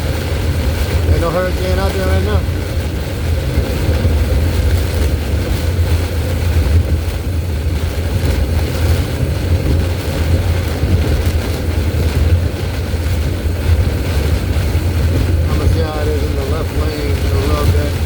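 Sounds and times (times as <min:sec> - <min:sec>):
car driving rumble: 0:00.0 - 0:18.0
heavy rain: 0:00.0 - 0:18.0
high wind: 0:00.0 - 0:18.0.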